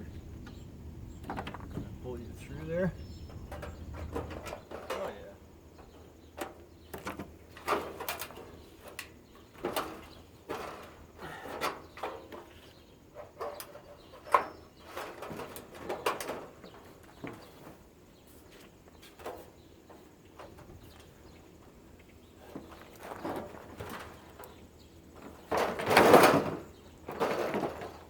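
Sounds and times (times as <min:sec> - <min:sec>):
knocks rattles and scraping of parts: 0:00.0 - 0:28.0.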